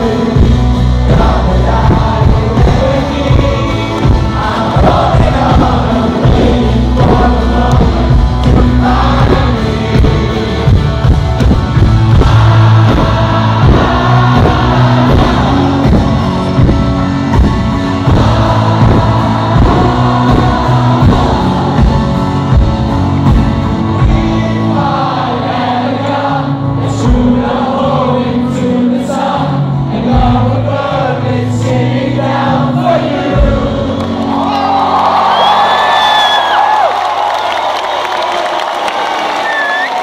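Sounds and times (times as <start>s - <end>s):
amplified vocals: 0.0s - 37.6s
crowd noise: 0.0s - 40.0s
drums: 0.0s - 40.0s
live rock band: 0.0s - 40.0s.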